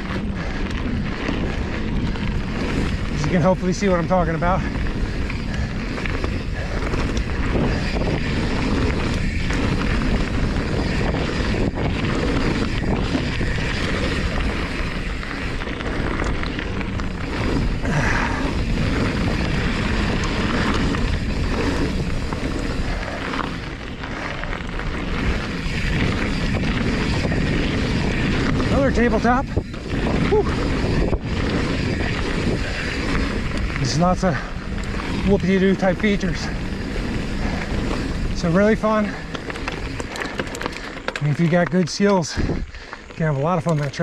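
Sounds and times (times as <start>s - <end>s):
tyres rolling over packed dirt: 0.0s - 44.0s
wind rumble on microphone: 0.0s - 44.0s.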